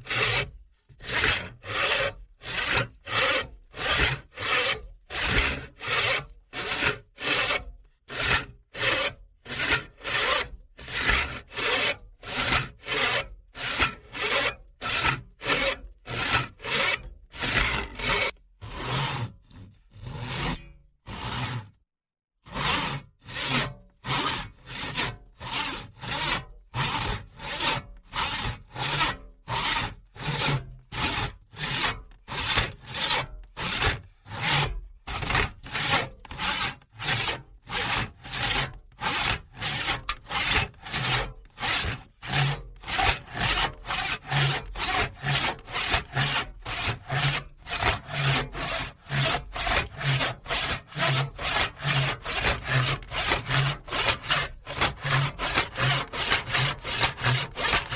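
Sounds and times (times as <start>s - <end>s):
hand saw cutting wood: 0.0s - 21.8s, 22.4s - 57.9s.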